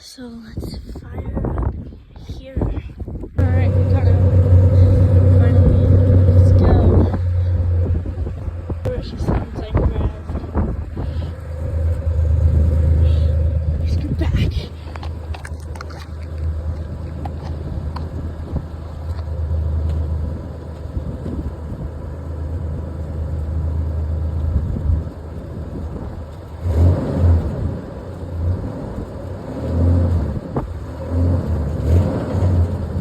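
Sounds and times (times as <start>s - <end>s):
car engine running and revving: 3.4s - 33.0s.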